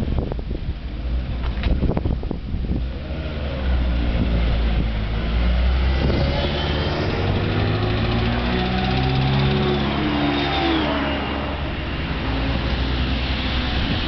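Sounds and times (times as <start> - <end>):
wind buffeting microphone: 0.0 - 14.0
racing car engines droning: 2.7 - 14.0.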